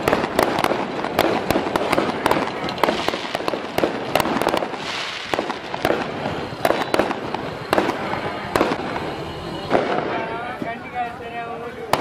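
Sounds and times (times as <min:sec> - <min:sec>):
firework bangs: 0:00.0 - 0:12.0
firework crackling hiss: 0:00.0 - 0:12.0.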